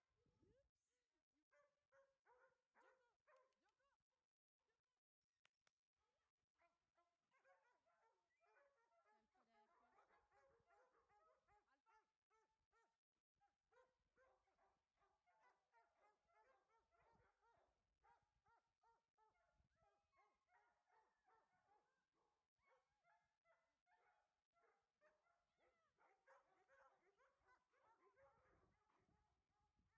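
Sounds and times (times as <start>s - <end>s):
many dogs barking and yelping: 1.5s - 4.0s, 6.6s - 13.0s, 13.7s - 29.9s.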